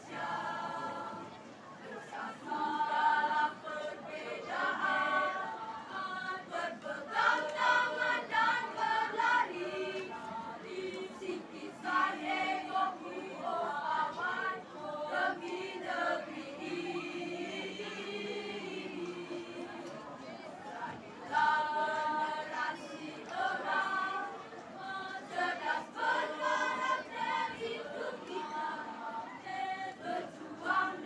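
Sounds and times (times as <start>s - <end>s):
choir singing in parts: 0.0s - 31.0s.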